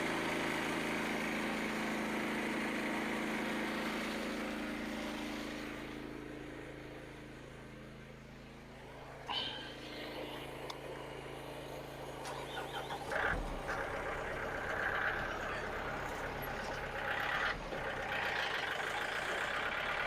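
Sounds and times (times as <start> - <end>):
small gasoline engine running: 0.0 - 20.0.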